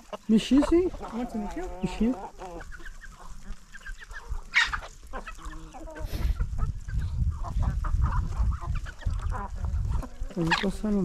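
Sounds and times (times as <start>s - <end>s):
chicken squawk: 0.0s - 10.7s
chickens clucking: 0.0s - 11.0s.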